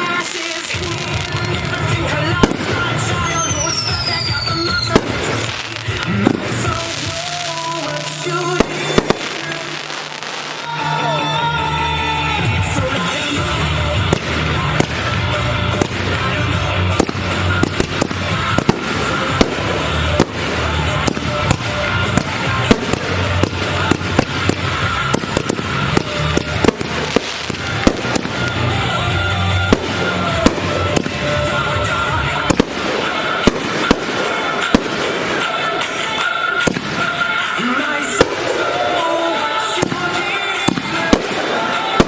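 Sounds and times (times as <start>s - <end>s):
fireworks bangs and crackles: 0.0s - 42.0s
music with steady bass: 0.0s - 42.0s.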